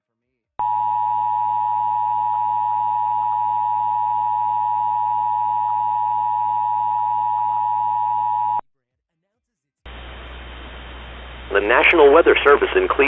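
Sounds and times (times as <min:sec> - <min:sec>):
loud steady electronic tone: 0:00.6 - 0:08.6, 0:09.9 - 0:13.0.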